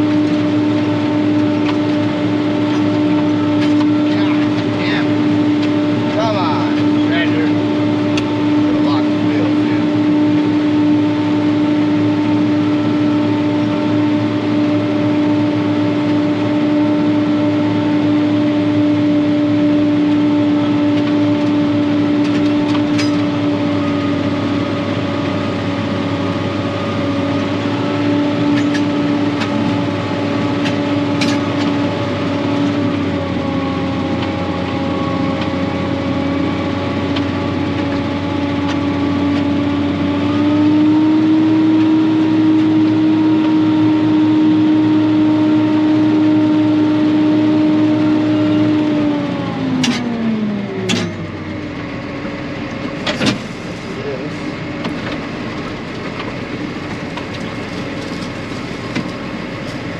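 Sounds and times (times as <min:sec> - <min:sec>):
tractor engine hum: 0:00.0 - 0:59.9.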